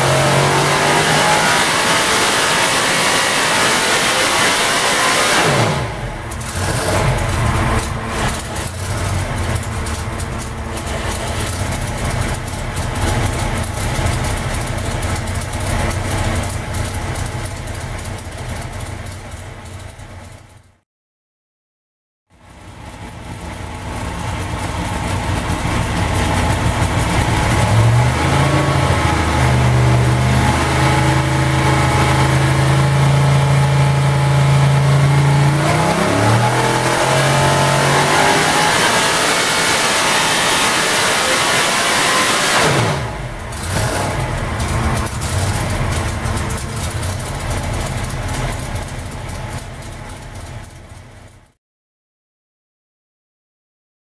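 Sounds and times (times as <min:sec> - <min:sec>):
drag racing engine revving: 0:00.0 - 0:17.6, 0:24.2 - 0:50.2.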